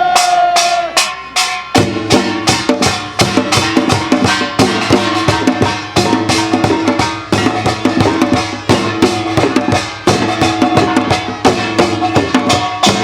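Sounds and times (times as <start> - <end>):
folk percussion driving rhythm: 0.0 - 13.0.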